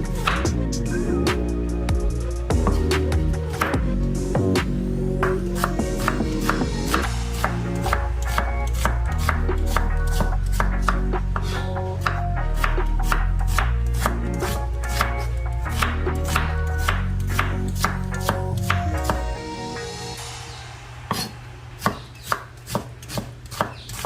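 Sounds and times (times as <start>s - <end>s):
background music: 0.0s - 22.7s.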